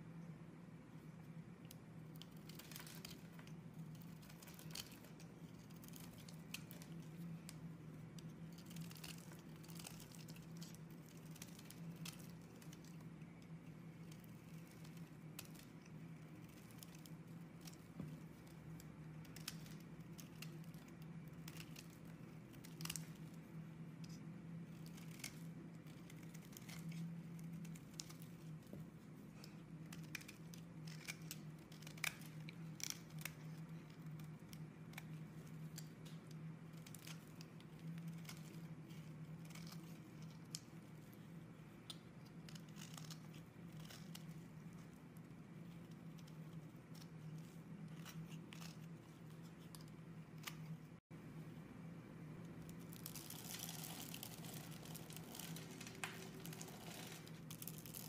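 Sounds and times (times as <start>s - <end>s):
knife shaving soap: 1.6s - 51.0s.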